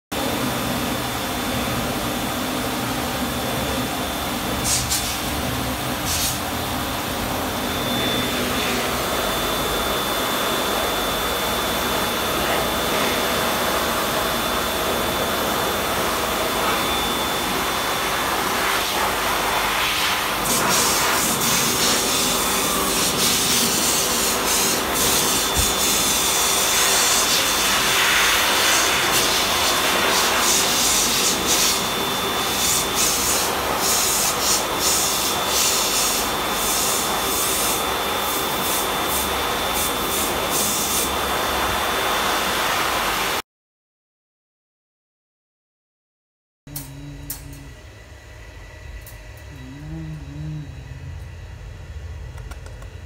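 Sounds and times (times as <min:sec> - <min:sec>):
pet dryer blowing air: 0:00.2 - 0:43.4, 0:46.7 - 0:53.0.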